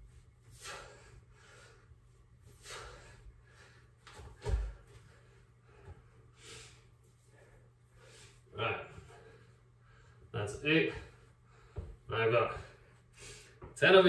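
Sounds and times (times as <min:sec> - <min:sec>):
man breathing hard: 0:00.5 - 0:10.3, 0:10.9 - 0:13.8.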